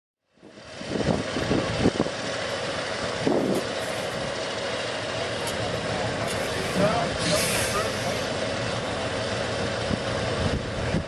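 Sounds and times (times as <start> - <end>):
forklift engine running: 0.3 - 11.0.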